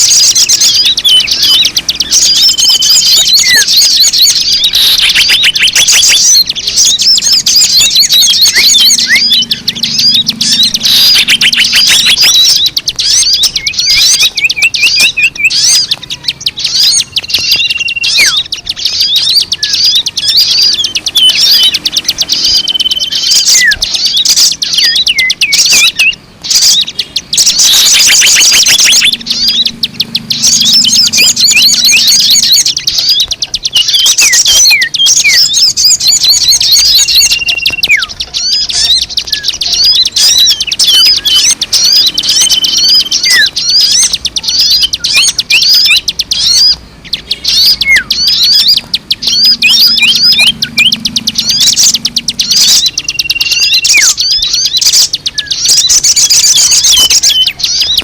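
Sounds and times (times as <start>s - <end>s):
small birds chirping and trilling: 0.0s - 58.0s.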